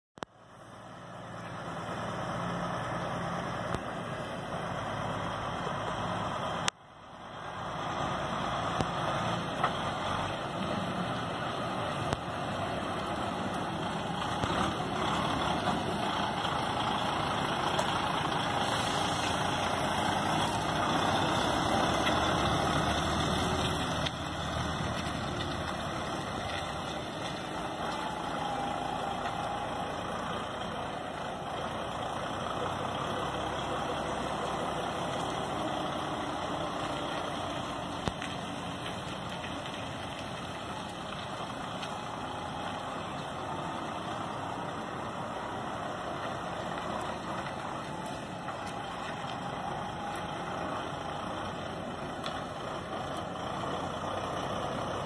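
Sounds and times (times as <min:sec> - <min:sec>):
truck diesel engine running: 0:00.2 - 0:55.0.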